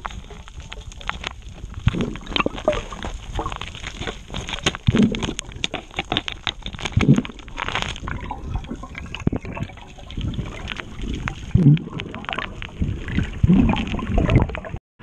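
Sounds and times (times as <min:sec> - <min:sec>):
underwater knocks and clicks: 0:00.0 - 0:14.8.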